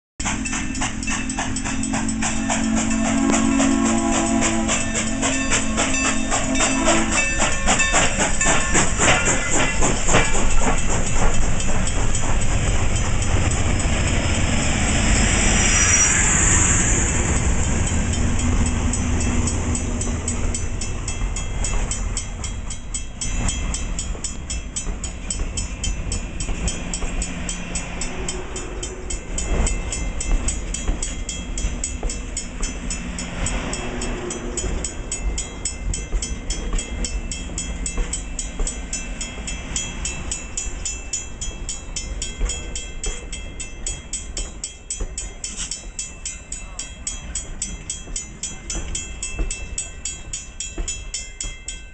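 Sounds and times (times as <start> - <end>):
crossing bell ringing: 0.2 - 51.9
train rumble and wheel clatter: 0.2 - 51.9.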